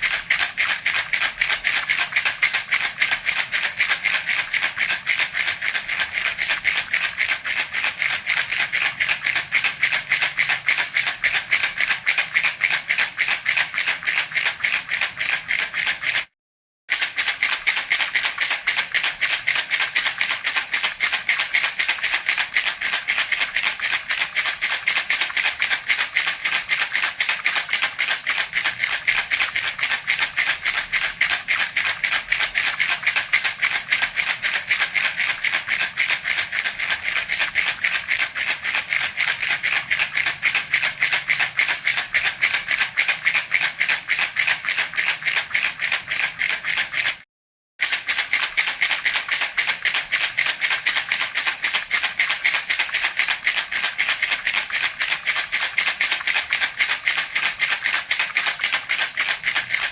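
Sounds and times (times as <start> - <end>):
baby rattle shaken: 0.0 - 16.3, 16.9 - 47.2, 47.8 - 59.9.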